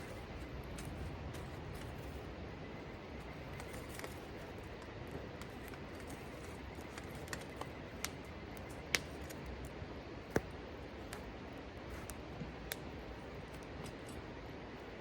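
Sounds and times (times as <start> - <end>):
steady low hiss: 0.0 - 15.0
wood fire crackling: 0.0 - 15.0.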